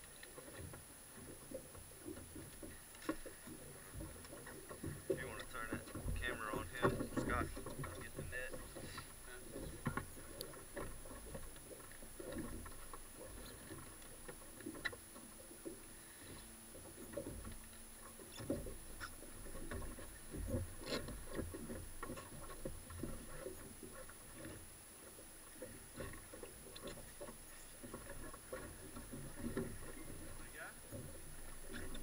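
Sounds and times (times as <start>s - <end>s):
soft clicks and taps on boat: 0.0s - 32.0s.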